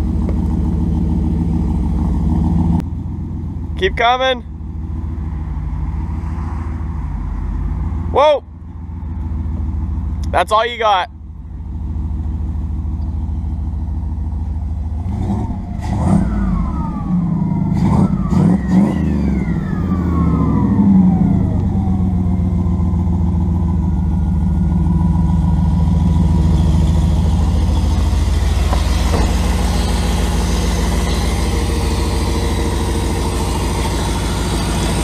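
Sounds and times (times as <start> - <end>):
truck engine idling and revving: 0.0 - 35.0.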